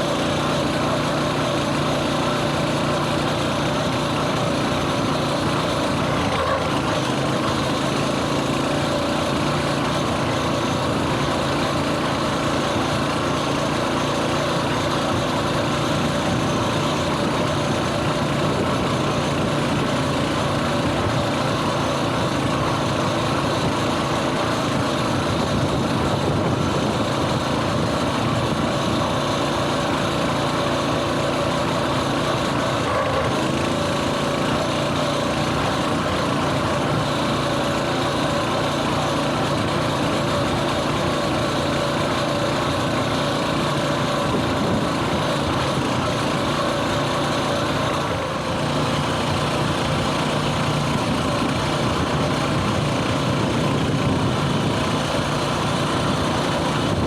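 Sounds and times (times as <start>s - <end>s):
mini bike engine running: 0.0s - 57.0s.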